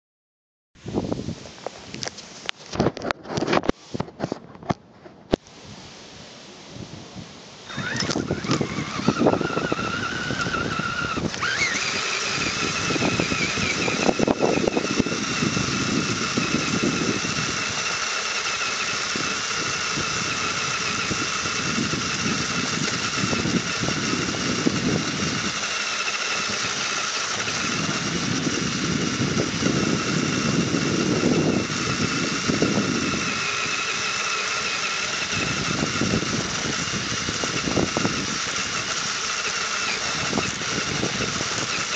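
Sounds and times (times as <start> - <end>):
rc truck motor whining: 7.6 - 41.9.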